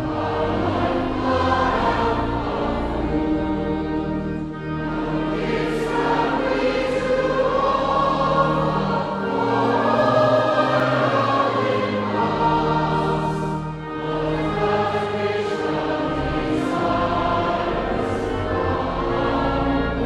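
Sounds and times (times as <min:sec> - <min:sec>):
choir singing a hymn: 0:00.0 - 0:20.0
instrumental accompaniment: 0:00.0 - 0:20.0.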